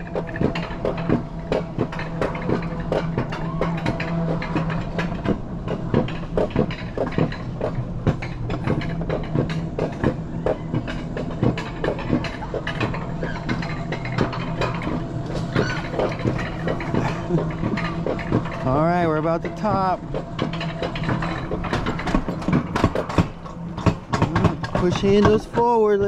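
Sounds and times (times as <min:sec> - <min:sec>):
lift mechanism clacking and rattling: 0:00.0 - 0:26.0
steady low hum: 0:00.0 - 0:26.0.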